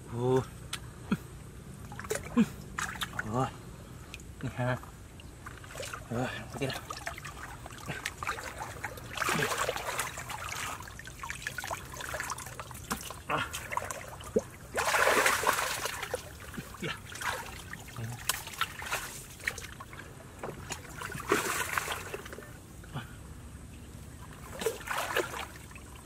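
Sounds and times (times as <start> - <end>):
river water sloshing and splashing: 1.8 - 22.9, 23.7 - 26.0.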